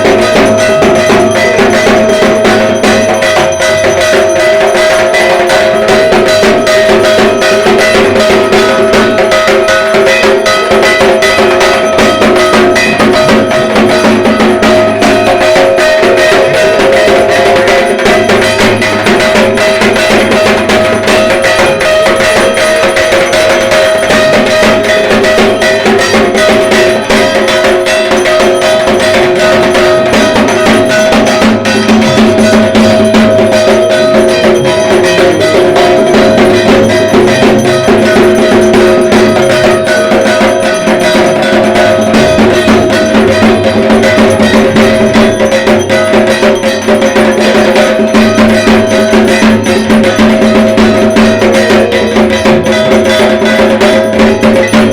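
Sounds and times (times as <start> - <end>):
barrel drum beaten fast: 0.0 - 54.9
metallic ringing: 0.0 - 54.9.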